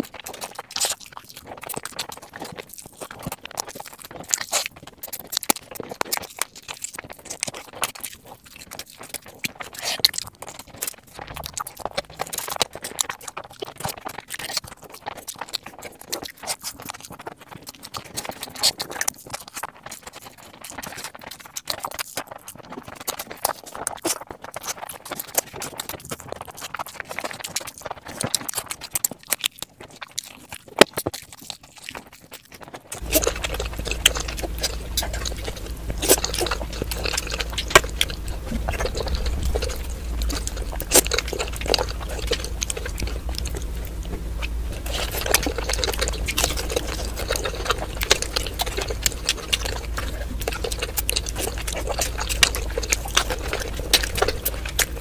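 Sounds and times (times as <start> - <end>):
biting and chewing food: 0.0 - 55.0
wet mouth clicks and smacks: 0.0 - 55.0.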